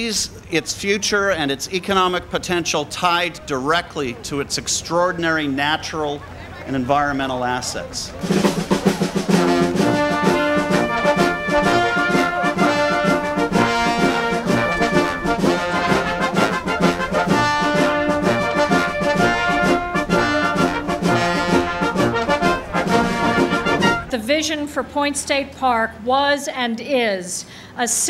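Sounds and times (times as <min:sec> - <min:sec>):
brass band playing chords: 0:00.0 - 0:02.5, 0:03.1 - 0:24.4.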